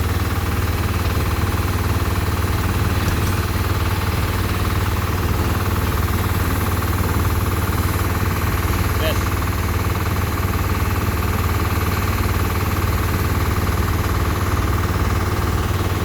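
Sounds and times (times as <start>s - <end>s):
fast mechanical rattle: 0.0s - 16.0s.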